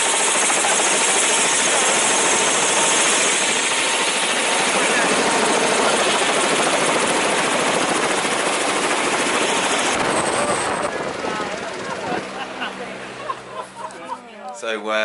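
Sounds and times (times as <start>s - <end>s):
helicopter rotor and engine: 0.0s - 14.2s.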